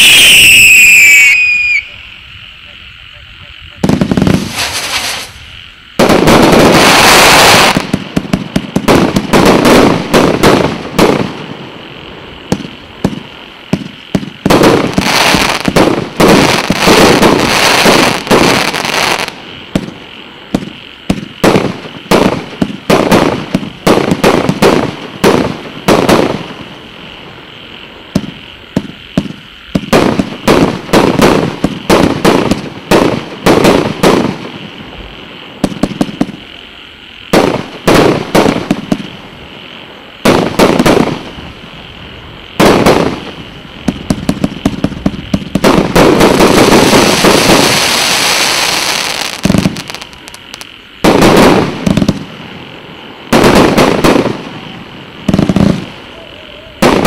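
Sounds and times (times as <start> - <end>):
fireworks popping and cracking: 0.0 - 1.9, 3.4 - 57.0.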